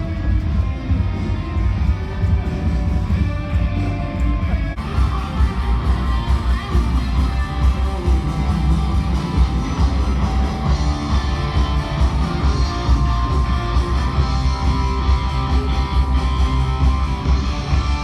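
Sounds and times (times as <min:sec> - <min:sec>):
electric guitar: 0:00.0 - 0:18.0
heavy pulsing bass: 0:00.0 - 0:18.0.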